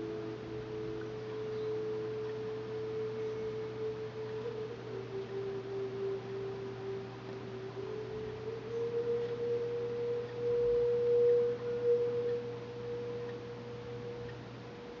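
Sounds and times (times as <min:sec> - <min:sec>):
low steady hum: 0:00.0 - 0:15.0
pure sustained tone: 0:00.0 - 0:15.0.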